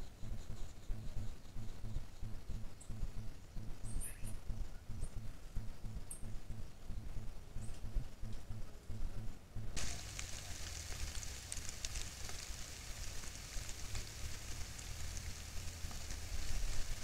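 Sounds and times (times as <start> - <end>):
steady high hiss: 0.0 - 17.0
low rumble: 0.1 - 17.0
faint crackles: 0.2 - 17.0.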